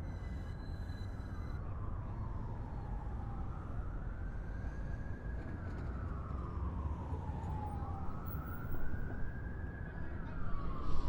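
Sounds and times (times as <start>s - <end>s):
emergency siren wailing: 1.7s - 11.0s.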